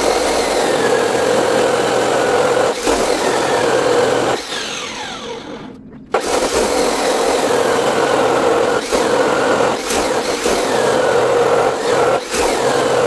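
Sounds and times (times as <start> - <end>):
chop saw grinding through steel: 0.0 - 13.0.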